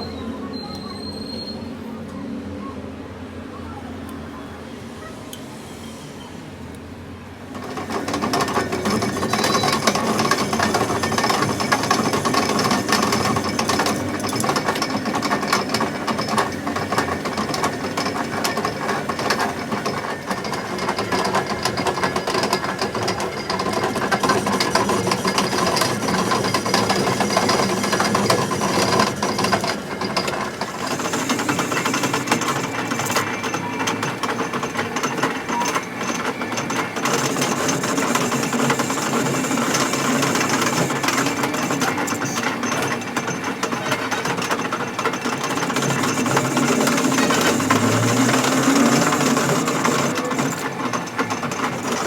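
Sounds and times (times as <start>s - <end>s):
mechanical metalworking clatter: 7.5s - 52.0s.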